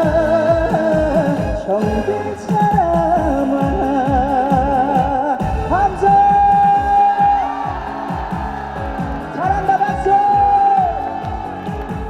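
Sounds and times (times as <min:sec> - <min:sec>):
kick drum beat: 0:00.0 - 0:12.0
live band backing music: 0:00.0 - 0:12.0.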